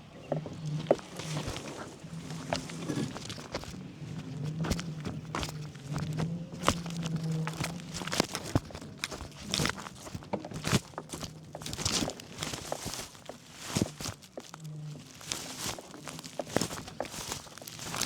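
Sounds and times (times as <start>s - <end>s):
tyres crunching on grit: 0.0s - 18.0s
bicycle rattling: 0.3s - 18.0s.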